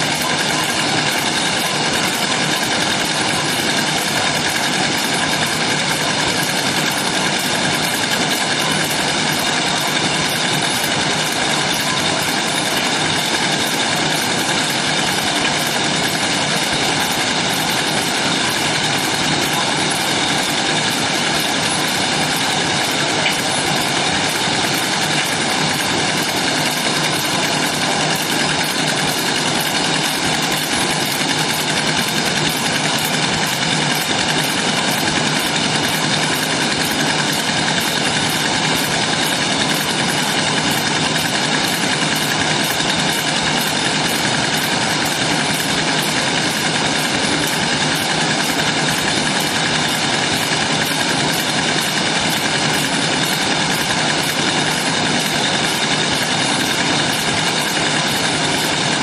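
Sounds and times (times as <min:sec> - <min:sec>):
packaging machine running: 0:00.0 - 0:59.0.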